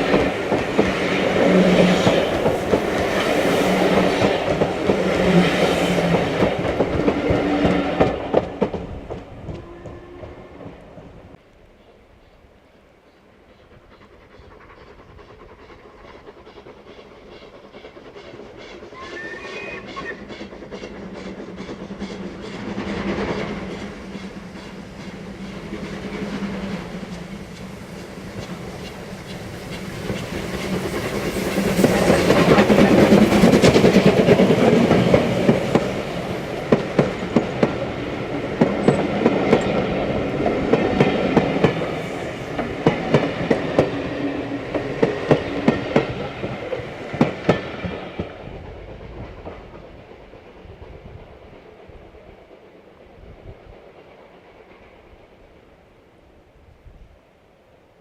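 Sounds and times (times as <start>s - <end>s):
steam locomotive exhaust beat: 0.0s - 11.4s, 13.4s - 55.4s.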